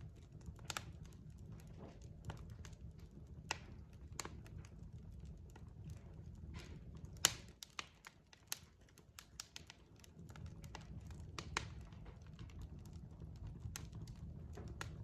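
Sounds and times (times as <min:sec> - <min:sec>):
logs crackling and popping in fireplace: 0:00.0 - 0:15.0.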